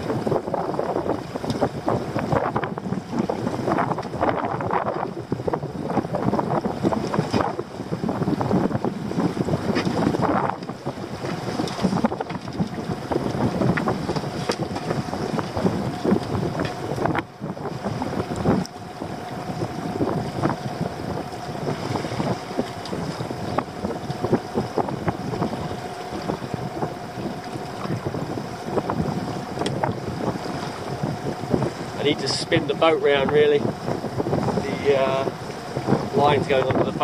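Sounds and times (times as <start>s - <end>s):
water lapping against a boat hull: 0.0s - 37.0s
wind buffeting microphone: 0.0s - 37.0s.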